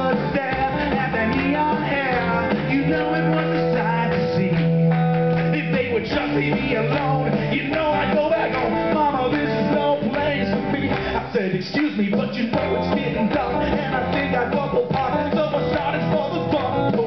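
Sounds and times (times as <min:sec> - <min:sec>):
rock and roll backing track: 0:00.0 - 0:17.0.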